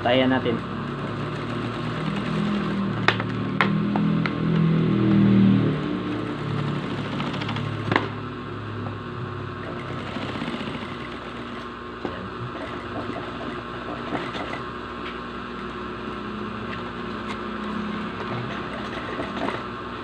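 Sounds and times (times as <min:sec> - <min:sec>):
sewing machine running: 0:00.0 - 0:03.7, 0:05.3 - 0:14.9, 0:15.5 - 0:19.8.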